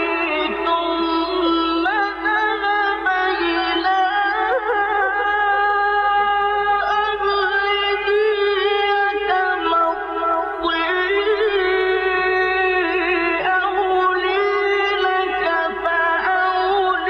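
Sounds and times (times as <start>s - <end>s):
man chanting melodic recitation: 0.0s - 17.0s.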